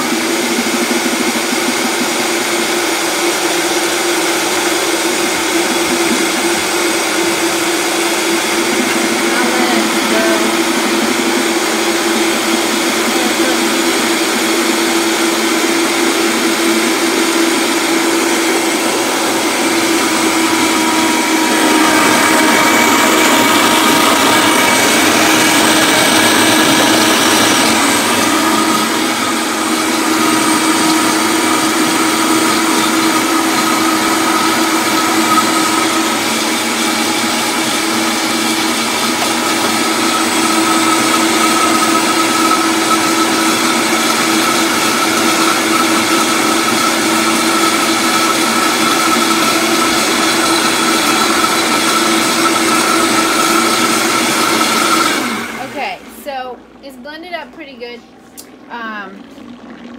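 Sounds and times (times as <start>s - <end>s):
blender motor whine: 0.0s - 56.8s, 58.0s - 59.9s.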